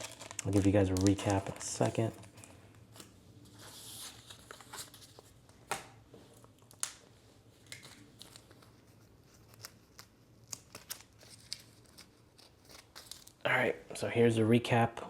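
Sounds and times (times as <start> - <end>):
cards and packaging rustling: 0.0 - 13.4.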